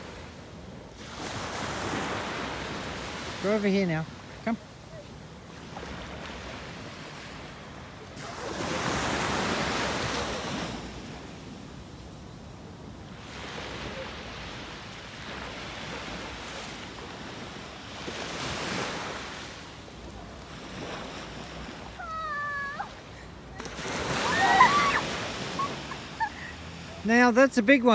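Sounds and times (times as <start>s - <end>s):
small waves breaking on shore: 0.0s - 27.9s.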